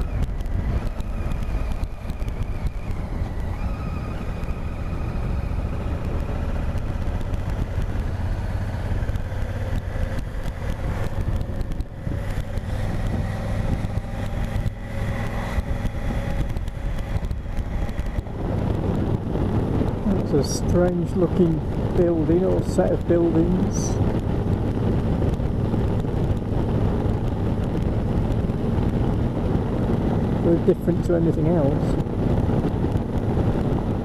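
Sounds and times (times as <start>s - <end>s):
motorcycle engine running: 0.0s - 34.0s
road noise: 0.0s - 34.0s
wind noise: 0.0s - 34.0s.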